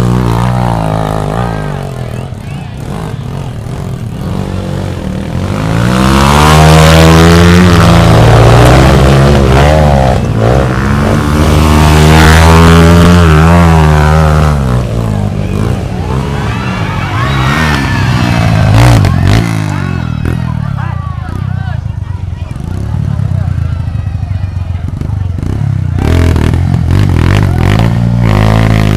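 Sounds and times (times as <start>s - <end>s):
motorcycle engine revving hard: 0.0s - 21.9s, 24.6s - 28.9s.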